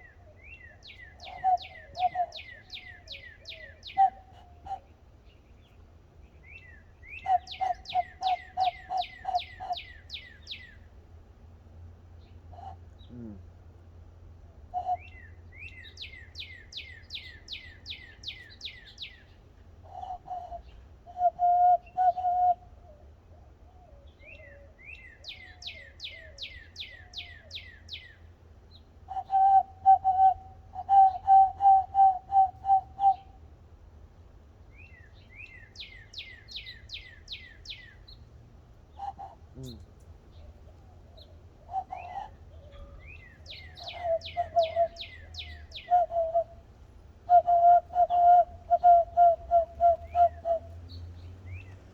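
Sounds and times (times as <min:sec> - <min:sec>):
whistled bird call: 0:00.0 - 0:04.9, 0:06.4 - 0:10.9, 0:14.7 - 0:33.4, 0:34.7 - 0:38.2, 0:39.0 - 0:46.6, 0:47.2 - 0:51.8.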